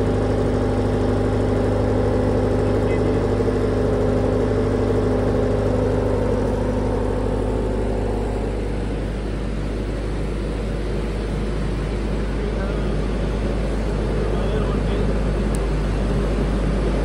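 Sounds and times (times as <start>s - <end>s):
diesel generator humming: 0.0s - 17.0s.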